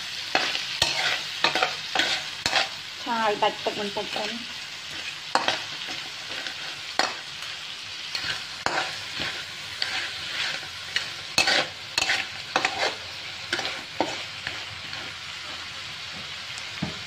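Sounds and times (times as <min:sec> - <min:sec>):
food sizzling in a wok: 0:00.0 - 0:17.0
spatula scraping and clacking on pan: 0:00.2 - 0:02.8, 0:04.2 - 0:15.7.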